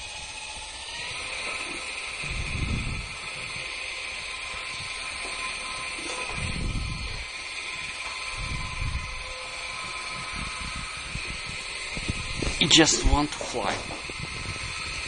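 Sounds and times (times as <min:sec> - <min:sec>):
rc helicopter motor whine: 0:00.0 - 0:15.0
low gusts of noise: 0:02.1 - 0:15.0.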